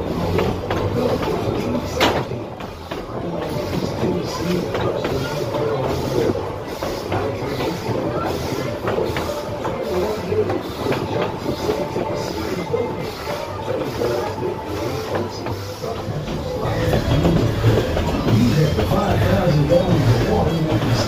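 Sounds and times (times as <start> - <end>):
steam engine chuffing: 0.0 - 21.0
train wheels clattering on rails: 0.0 - 21.0.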